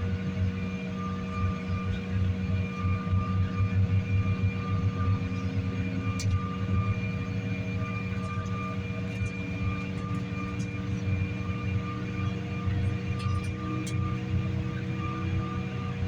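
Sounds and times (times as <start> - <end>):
airliner engines droning in cabin: 0.0 - 16.0.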